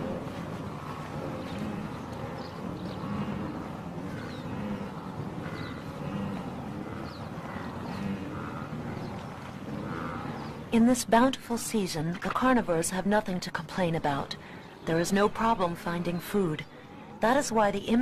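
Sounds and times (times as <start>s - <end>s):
noisy outdoor background: 0.0s - 18.0s.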